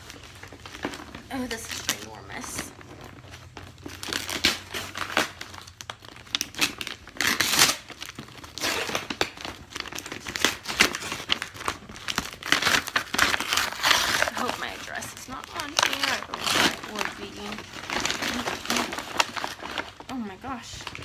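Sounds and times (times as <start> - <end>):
packaging crinkling and rustling: 0.0 - 21.0
packaging tearing: 0.0 - 21.0.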